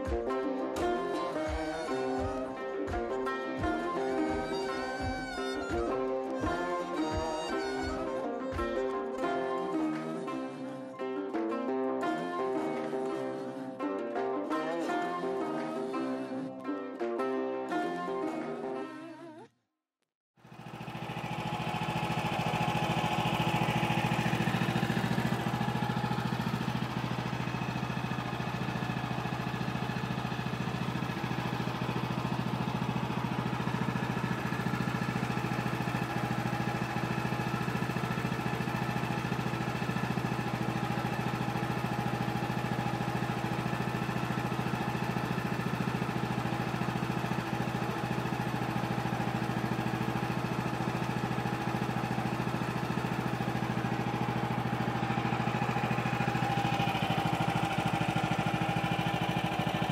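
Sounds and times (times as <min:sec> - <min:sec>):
sawmill engine drone: 0:00.0 - 0:11.1, 0:20.4 - 0:59.9.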